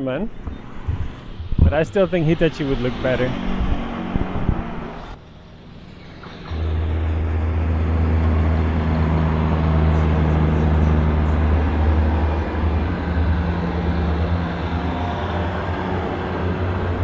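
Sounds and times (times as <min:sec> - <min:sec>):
large engine humming: 0:00.0 - 0:17.0.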